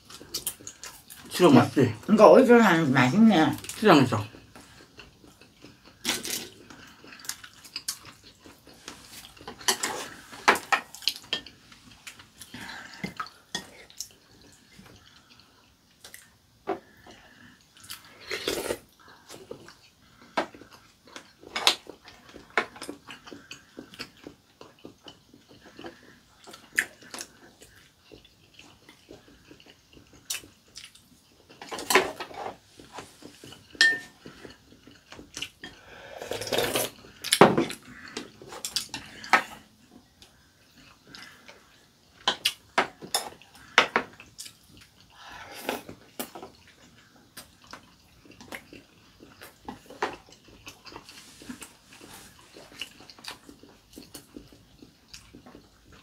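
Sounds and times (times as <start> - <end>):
slurping and eating: 4.3 - 56.0.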